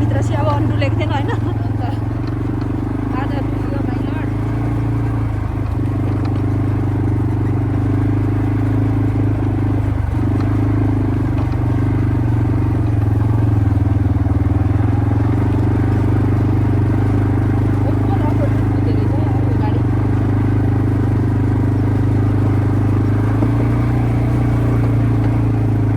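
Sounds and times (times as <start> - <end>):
quad bike engine running: 0.0 - 25.9.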